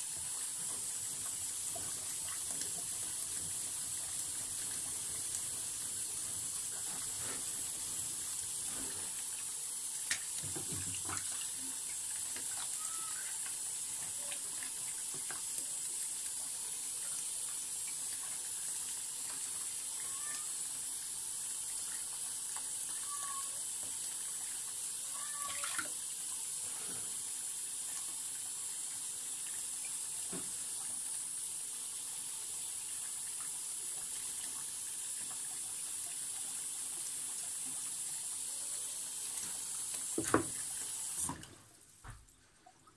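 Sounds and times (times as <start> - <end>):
tap water running into sink: 0.0 - 42.3.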